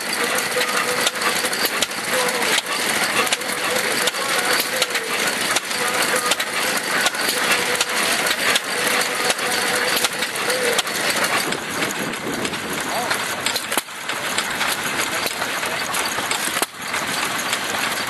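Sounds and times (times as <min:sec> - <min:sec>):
engine knock: 0:00.0 - 0:18.0
metallic gear clatter: 0:00.0 - 0:18.0
stationary engine running: 0:00.0 - 0:18.0.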